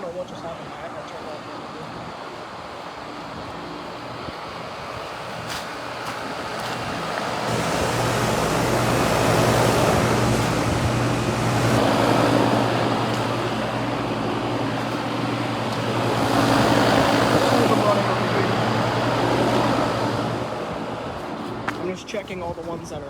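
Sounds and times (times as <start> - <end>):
fan air rushing: 0.0 - 23.0
heat pump humming: 0.0 - 23.0.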